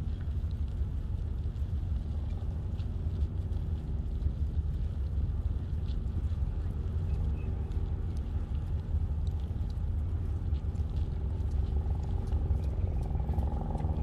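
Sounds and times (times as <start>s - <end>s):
faint light ticks: 0.0s - 14.0s
low hum: 0.0s - 14.0s
wind buffeting microphone: 0.0s - 14.0s.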